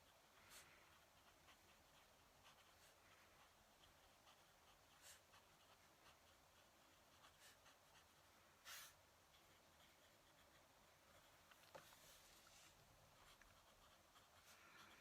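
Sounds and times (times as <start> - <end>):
pen nib scratching paper: 0.0 - 11.8, 13.1 - 15.0.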